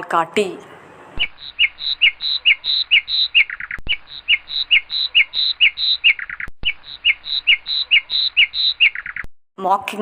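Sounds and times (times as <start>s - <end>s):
lapwing calling shrilly: 1.2s - 9.3s.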